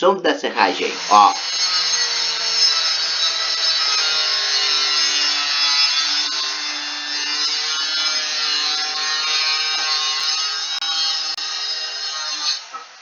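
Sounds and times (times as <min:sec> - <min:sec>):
saw rasping through wood: 0:00.6 - 0:13.0.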